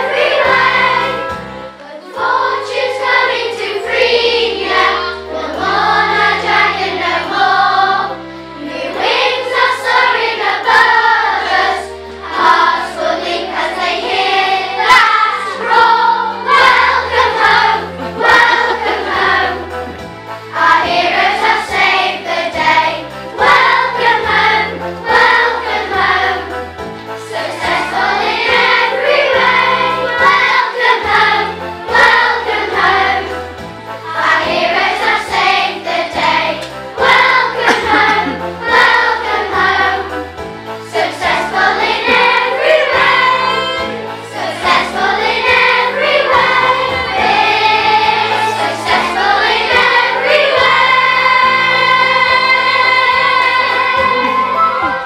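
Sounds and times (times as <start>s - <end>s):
backing accompaniment with bass line: 0.0s - 55.0s
children's choir singing: 0.0s - 55.0s.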